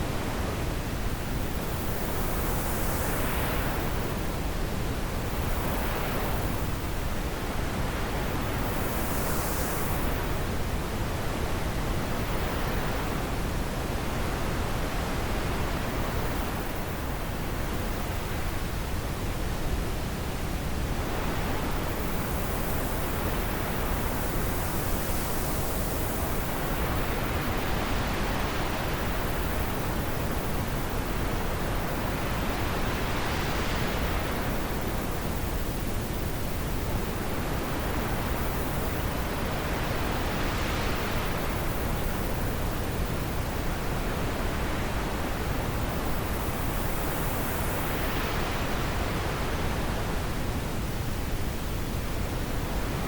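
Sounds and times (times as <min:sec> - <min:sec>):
wind blowing through trees: 0:00.0 - 0:53.0.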